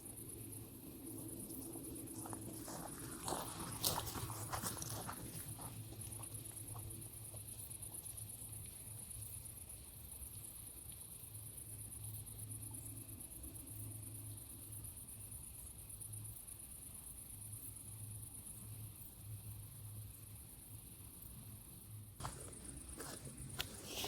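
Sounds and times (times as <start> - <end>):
insects chirring in high buzz: 0.0 - 24.0.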